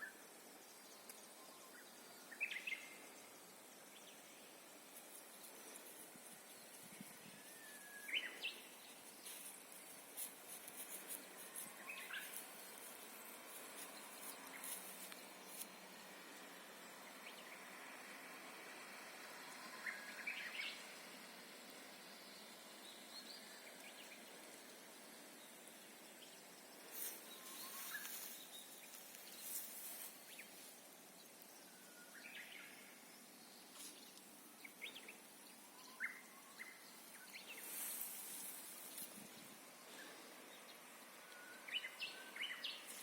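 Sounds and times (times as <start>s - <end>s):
bush warbler singing: 0.0s - 43.0s.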